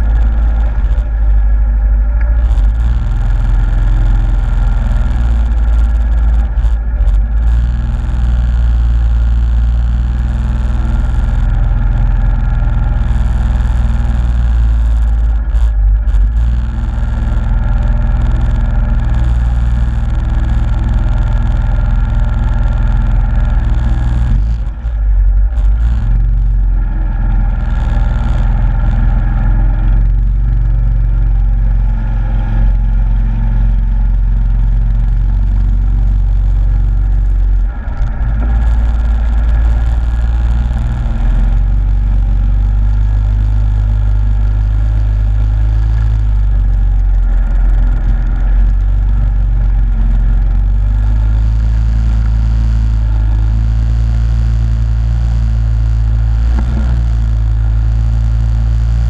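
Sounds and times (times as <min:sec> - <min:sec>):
quad engine running hard: 0:00.0 - 0:59.0.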